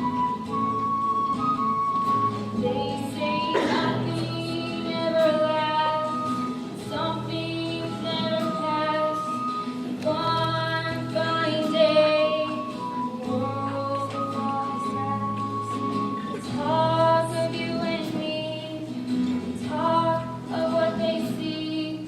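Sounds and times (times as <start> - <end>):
female voices singing: 2.6 - 19.0, 19.6 - 22.0.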